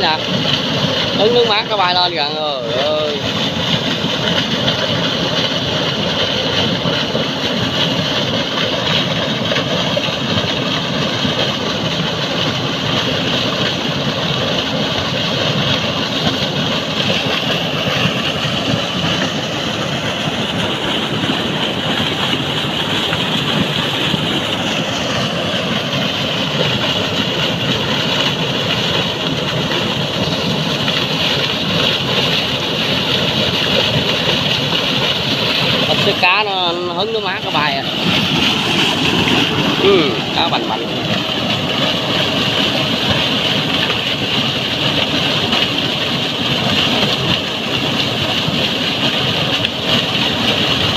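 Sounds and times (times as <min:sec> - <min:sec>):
pump engine running: 0:00.0 - 0:50.9
water gushing into pond: 0:00.0 - 0:50.9.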